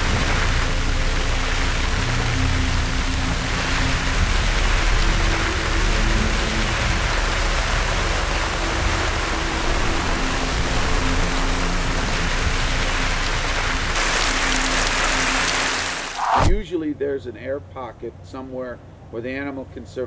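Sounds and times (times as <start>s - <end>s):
heavy rain falling: 0.0s - 16.6s.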